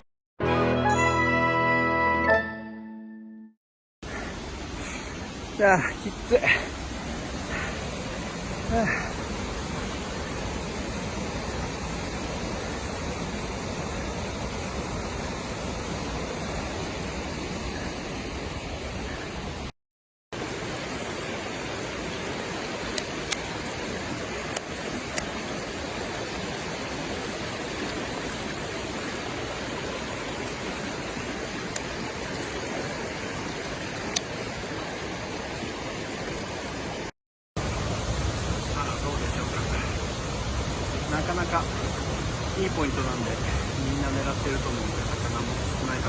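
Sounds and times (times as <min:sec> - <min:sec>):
stream rushing over rocks: 0:04.0 - 0:19.7, 0:20.4 - 0:46.0.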